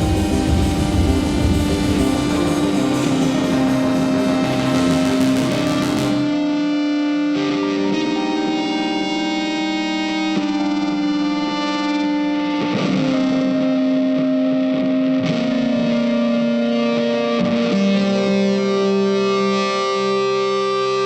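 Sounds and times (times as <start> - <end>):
distorted electric guitar notes: 0.0 - 21.0.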